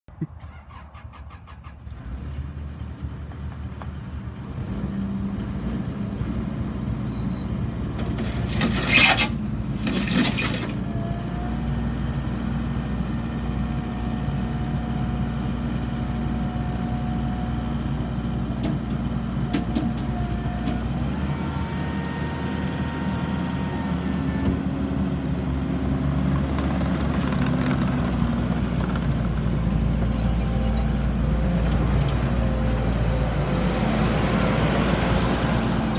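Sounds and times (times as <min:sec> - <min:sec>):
diesel engine running: 0:00.2 - 0:35.9.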